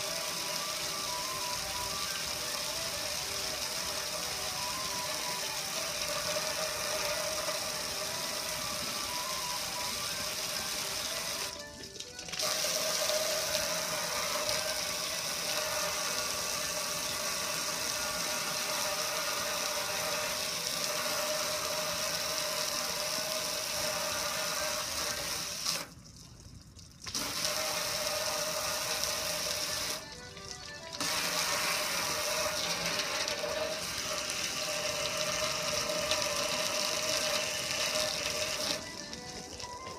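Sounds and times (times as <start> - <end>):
pressure washer running: 0.0 - 11.6, 12.4 - 25.9, 27.1 - 39.9
water spraying on metal: 0.0 - 26.1, 27.0 - 39.9.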